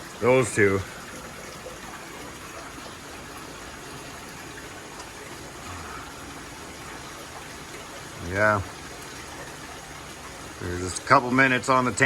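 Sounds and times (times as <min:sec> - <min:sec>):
aquarium water rushing: 0:00.0 - 0:12.0.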